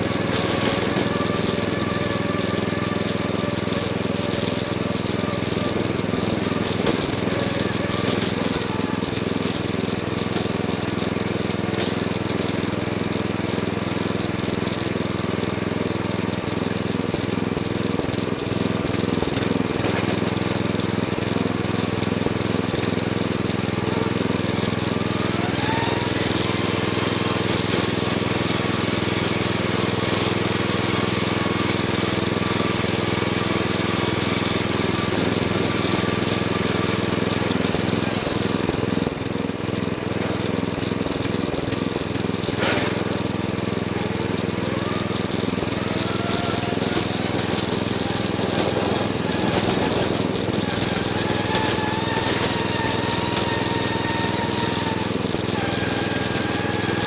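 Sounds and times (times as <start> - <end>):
lawnmower engine running: 0.0 - 57.0.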